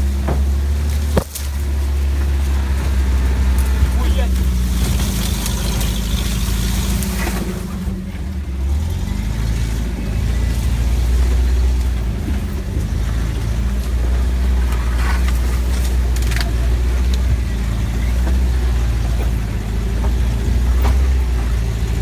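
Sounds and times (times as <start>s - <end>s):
rough rattling: 0.0s - 22.0s
vehicle engine under load: 0.0s - 22.0s.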